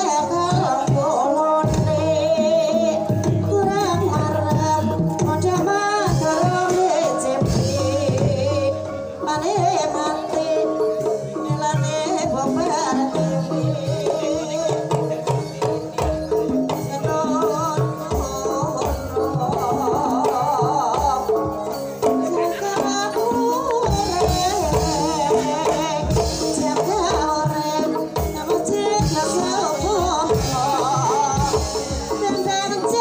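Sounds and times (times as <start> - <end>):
hand drums beat: 0.0 - 33.0.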